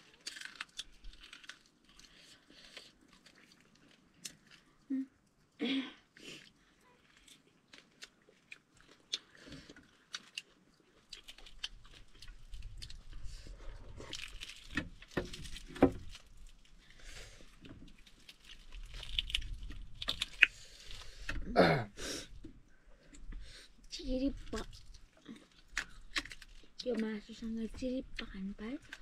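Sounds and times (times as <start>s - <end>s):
close chewing and biting: 0.0s - 5.4s, 6.1s - 21.4s, 23.1s - 27.2s.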